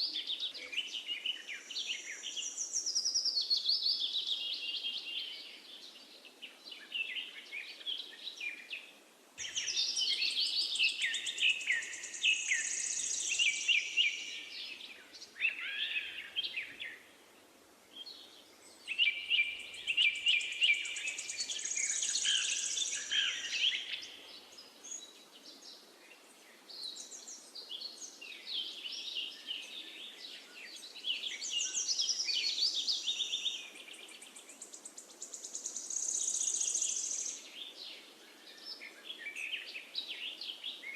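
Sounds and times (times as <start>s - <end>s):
songbirds warbling and trilling: 0.0s - 17.2s, 17.9s - 40.9s
faint outdoor hiss: 0.0s - 40.9s.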